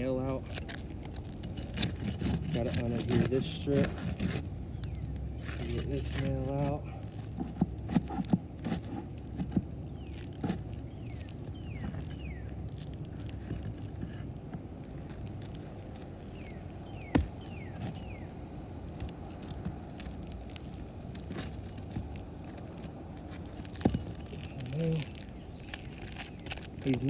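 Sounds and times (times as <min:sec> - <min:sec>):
metal tool scraping shingle: 0:00.0 - 0:27.0.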